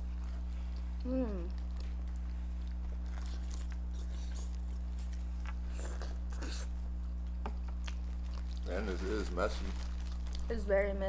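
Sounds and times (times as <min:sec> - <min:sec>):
person chewing: 0:00.0 - 0:10.5
electrical hum: 0:00.0 - 0:11.0.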